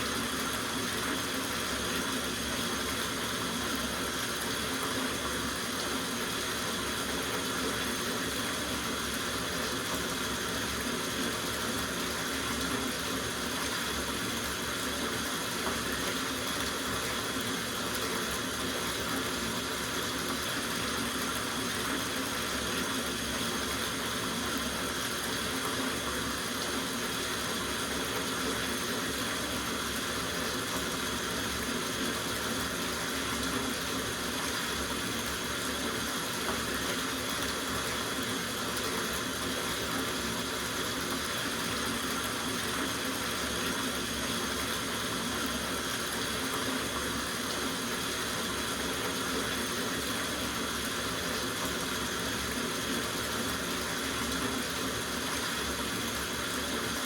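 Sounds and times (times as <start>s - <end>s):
water running into bathtub: 0.0s - 57.0s.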